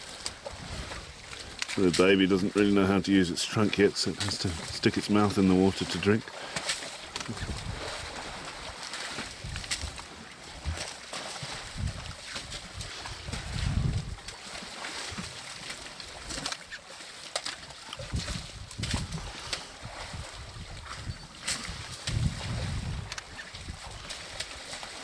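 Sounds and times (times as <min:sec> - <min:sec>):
water sloshing and splashing: 0:00.0 - 0:25.0.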